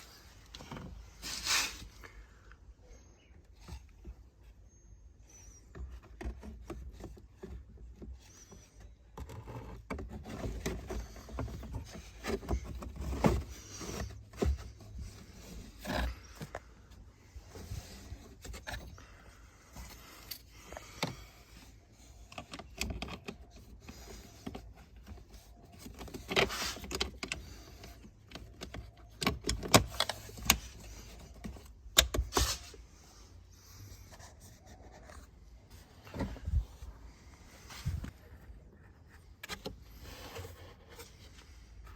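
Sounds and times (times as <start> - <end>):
scraping and rustling: 0.0 - 2.3, 3.0 - 41.9.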